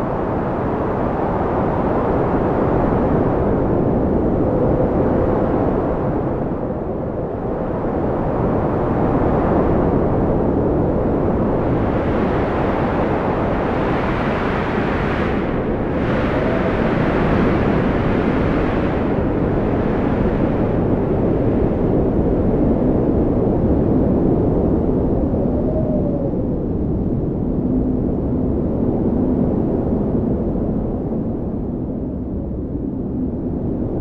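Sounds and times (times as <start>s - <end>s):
faint wavering wind howl: 0.0s - 34.0s
strong wind gusting: 0.0s - 34.0s.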